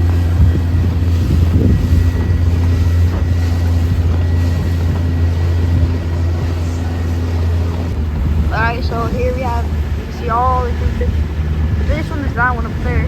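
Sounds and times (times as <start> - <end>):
outboard engine drone: 0.0 - 13.0
water rushing past hull: 0.0 - 13.0
wind buffeting microphone: 0.0 - 13.0.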